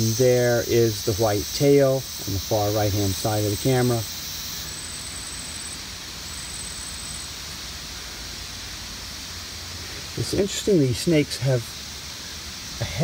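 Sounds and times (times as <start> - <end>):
forest background rushing: 0.0 - 13.0
thin high-pitched whine: 0.0 - 13.0.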